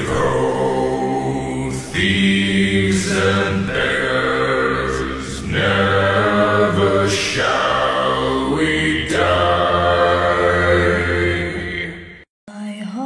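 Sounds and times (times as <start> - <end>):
choir chanting long notes: 0.0 - 12.3.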